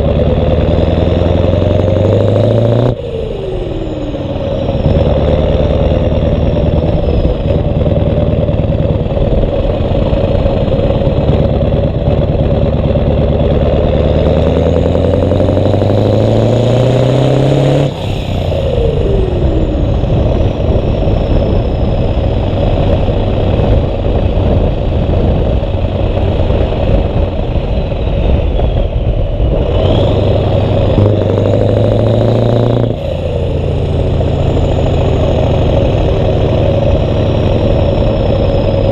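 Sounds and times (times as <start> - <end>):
diesel engine running loud: 0.0 - 38.9.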